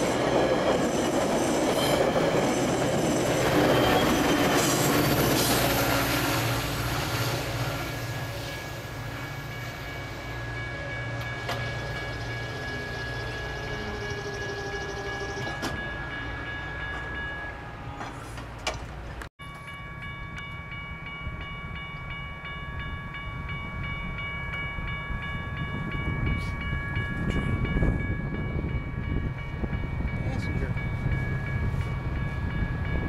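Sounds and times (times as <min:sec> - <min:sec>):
crossing bell ringing: 0:00.0 - 0:18.0, 0:19.4 - 0:33.0
train rumble: 0:00.0 - 0:33.0.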